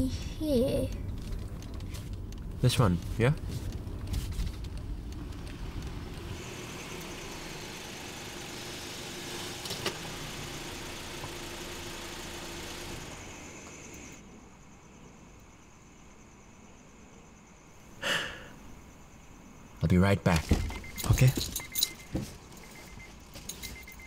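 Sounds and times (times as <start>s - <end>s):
car engine and road hum: 0.0s - 14.9s, 18.6s - 24.0s.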